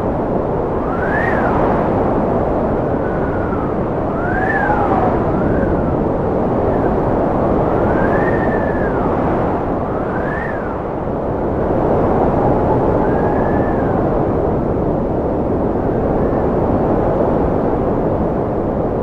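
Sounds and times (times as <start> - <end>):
strong whistling wind: 0.0 - 19.0.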